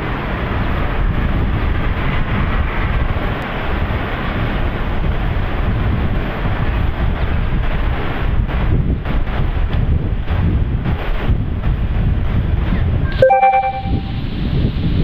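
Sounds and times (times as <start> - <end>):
wind buffeting microphone: 0.0 - 13.2, 13.8 - 15.0.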